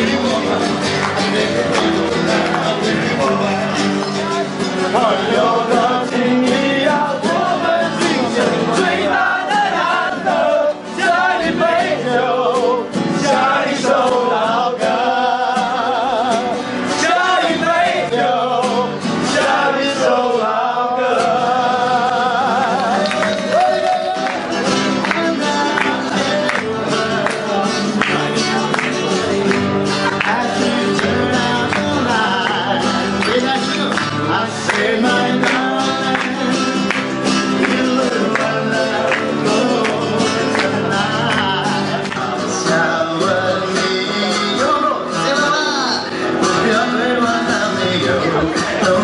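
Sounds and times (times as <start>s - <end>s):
guitar: 0.0s - 49.0s
man singing: 0.0s - 49.0s.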